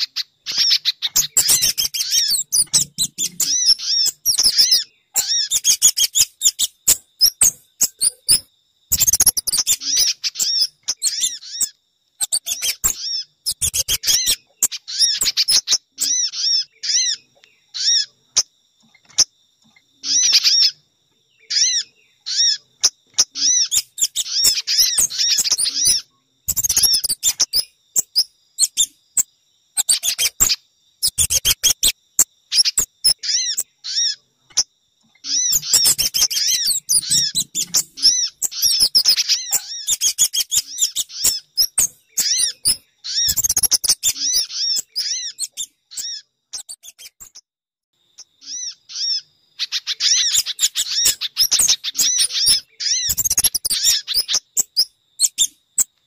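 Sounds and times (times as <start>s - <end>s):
songbird chirps: 0.0s - 56.0s.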